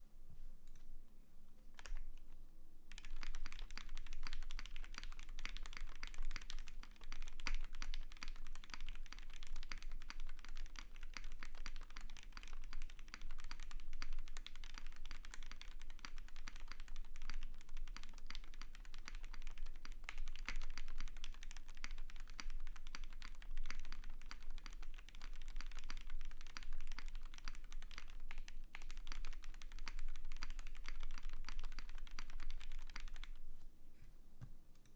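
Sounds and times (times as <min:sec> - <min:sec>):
fast mechanical keyboard typing: 0:02.9 - 0:33.4.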